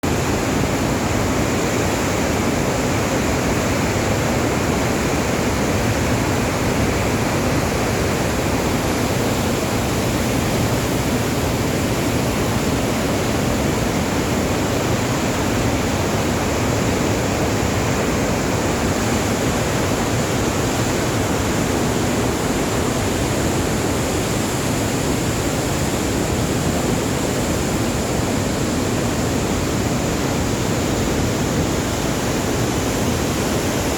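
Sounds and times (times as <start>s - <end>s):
water rushing from a dam: 0.0s - 33.9s.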